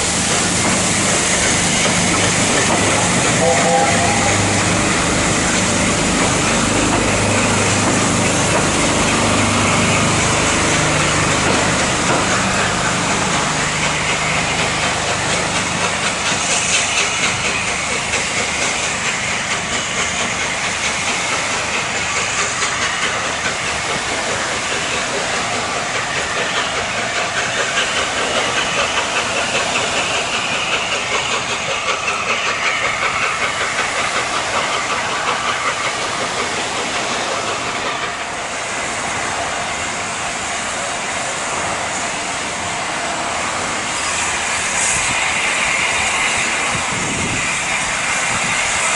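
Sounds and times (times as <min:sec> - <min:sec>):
steam hissing: 0:00.0 - 0:48.9
train rumble: 0:00.0 - 0:48.9.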